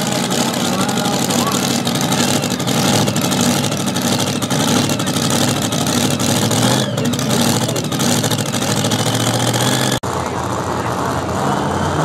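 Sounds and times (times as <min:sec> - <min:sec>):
loud supercharged engine running: 0:00.0 - 0:12.0.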